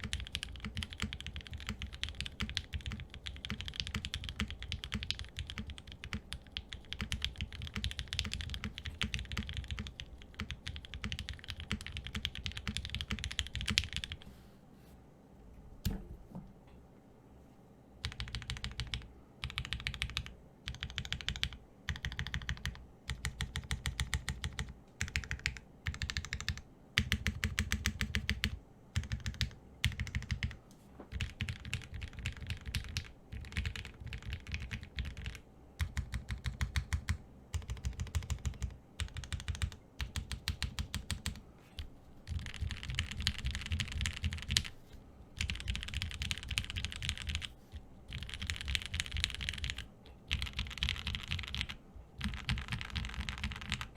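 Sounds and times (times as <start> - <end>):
mechanical keyboard typing: 0.0 - 14.2, 18.0 - 44.7, 45.4 - 53.9.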